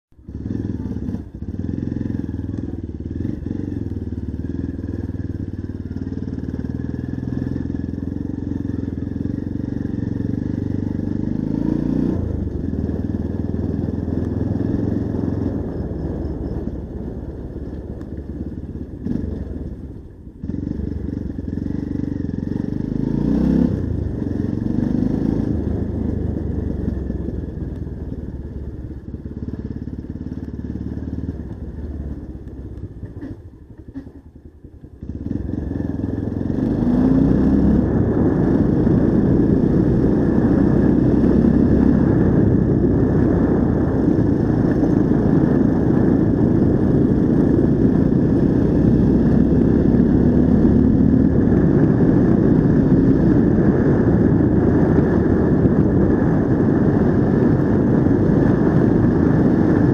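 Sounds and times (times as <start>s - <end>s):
motorcycle engine running: 0.1s - 59.9s.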